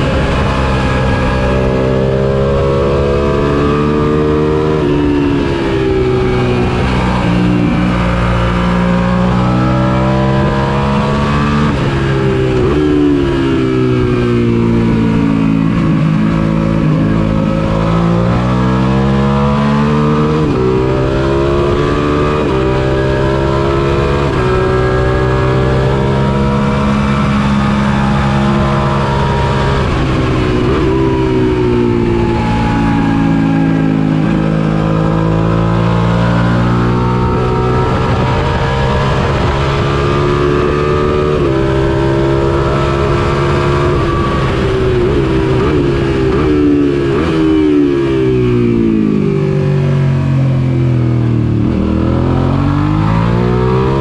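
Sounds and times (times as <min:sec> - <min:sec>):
motorcycle engine revving: 0:00.0 - 0:54.0
rush of wind noise: 0:00.0 - 0:54.0.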